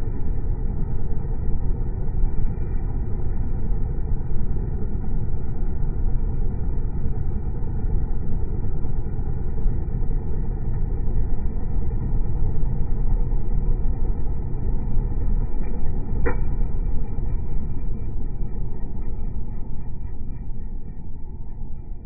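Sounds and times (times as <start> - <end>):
electric heater fan running: 0.0 - 22.0.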